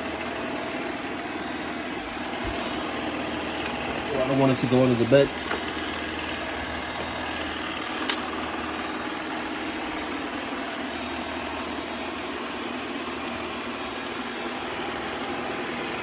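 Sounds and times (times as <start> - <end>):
robot vacuum humming: 0.0 - 16.0.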